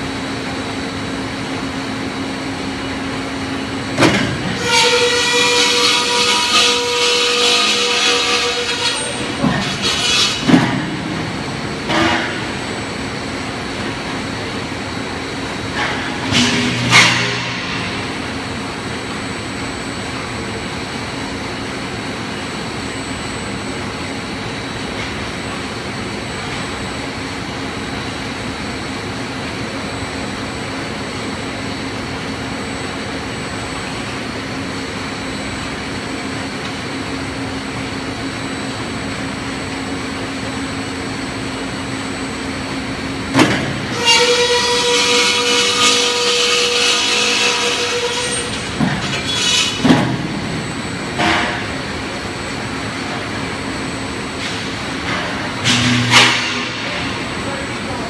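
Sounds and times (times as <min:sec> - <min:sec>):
machinery drone and hum: 0:00.0 - 0:58.0.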